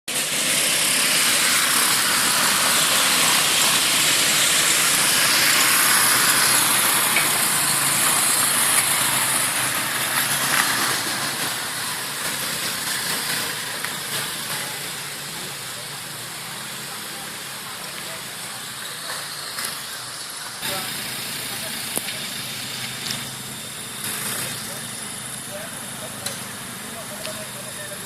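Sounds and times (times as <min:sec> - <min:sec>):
faint atv engine running: 0:00.1 - 0:28.0
loud steady hiss: 0:00.1 - 0:28.0.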